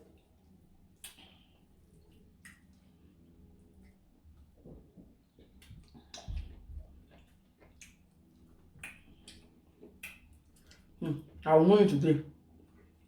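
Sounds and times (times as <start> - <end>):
chewing and mouth clicks: 0.0 - 11.4.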